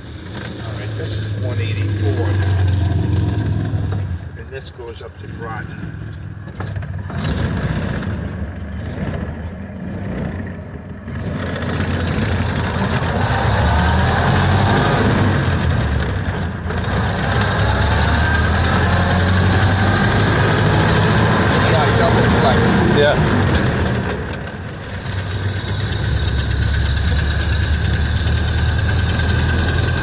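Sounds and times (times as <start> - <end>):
car engine running: 0.0 - 30.0
road and wind noise: 0.0 - 30.0.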